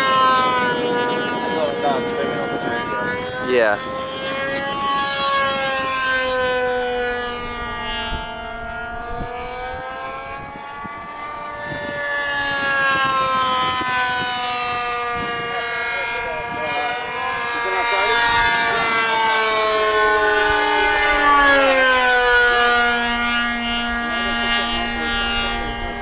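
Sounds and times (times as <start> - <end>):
model airplane engine whining: 0.0 - 26.0.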